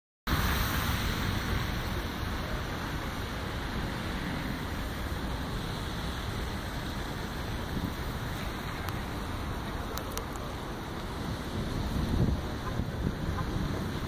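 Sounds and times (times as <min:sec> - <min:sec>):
wind buffeting microphone: 0:00.3 - 0:14.0.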